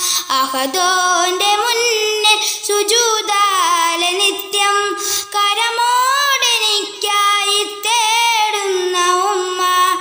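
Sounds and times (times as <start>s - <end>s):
boy singing: 0.0s - 10.0s.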